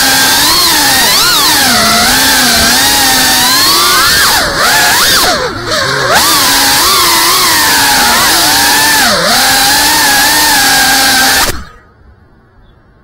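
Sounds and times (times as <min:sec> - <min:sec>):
drone motors and propellers whining: 0:00.0 - 0:12.0.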